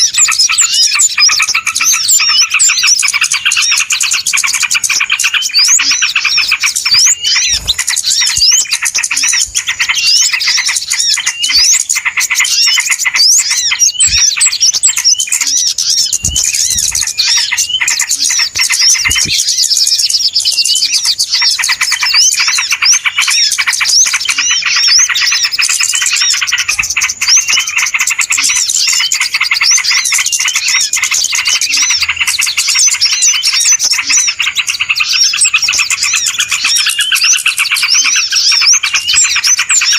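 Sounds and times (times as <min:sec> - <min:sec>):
small songbirds chirping and twittering: 0:00.0 - 0:39.9.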